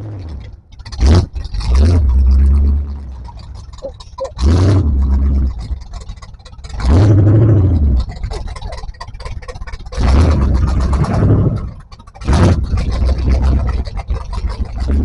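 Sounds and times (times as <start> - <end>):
loud rumbling bursts: 0.0 - 15.0
off-road vehicle engine running: 0.0 - 15.0.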